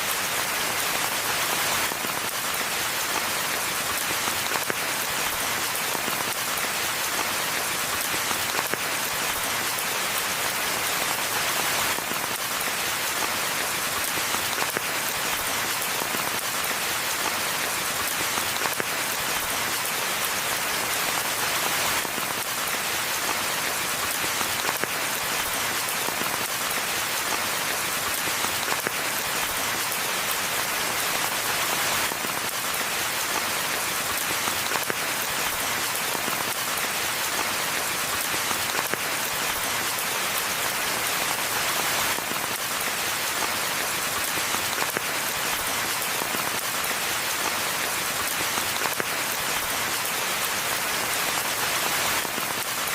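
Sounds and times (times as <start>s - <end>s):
rain falling on foliage: 0.0s - 52.9s.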